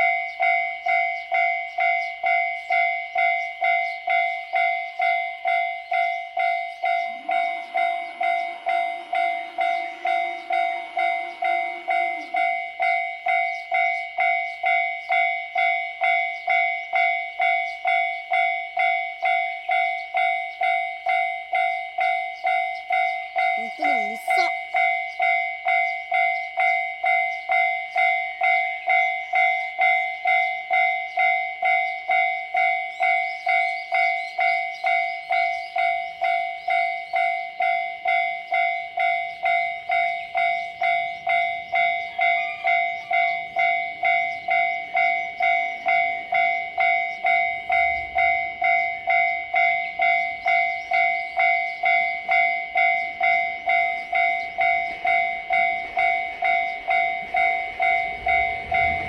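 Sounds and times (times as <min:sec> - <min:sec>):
level crossing alarm clanging: 0:00.0 - 0:59.0.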